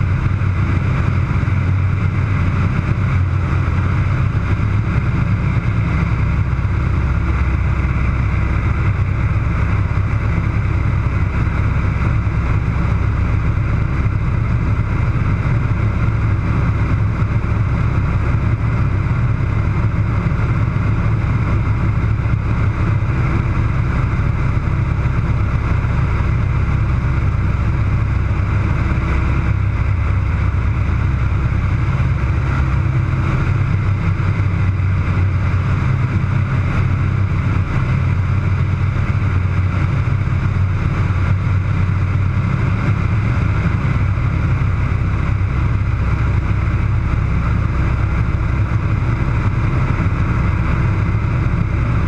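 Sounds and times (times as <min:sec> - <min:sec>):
radial engine and propeller droning: 0:00.0 - 0:52.0.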